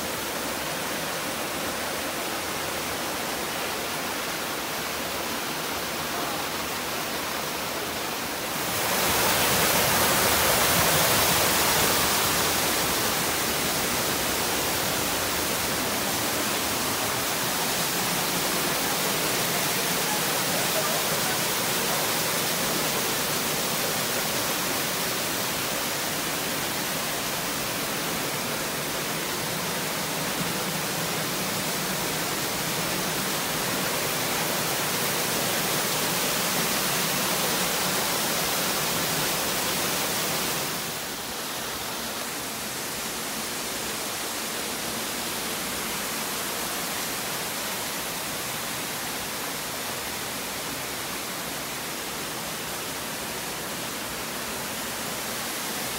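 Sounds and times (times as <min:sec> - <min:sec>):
stream rushing over waterfalls: 0:00.0 - 0:55.9.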